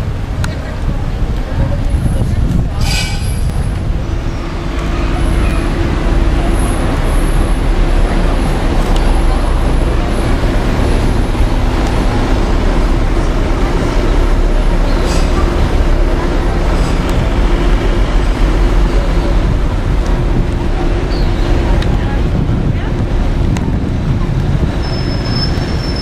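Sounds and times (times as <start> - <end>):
engine idling nearby: 0.0 - 26.0
traffic rumble: 0.0 - 26.0.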